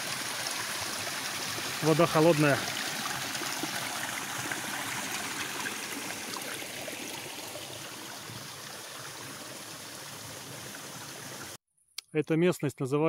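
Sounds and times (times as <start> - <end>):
brook trickling and splashing: 0.0 - 11.6.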